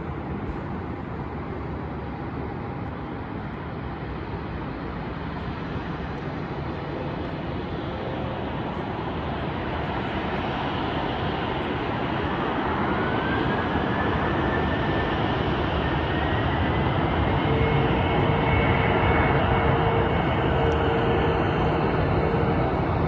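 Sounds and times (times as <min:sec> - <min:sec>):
jet engines rushing: 0:00.1 - 0:23.0.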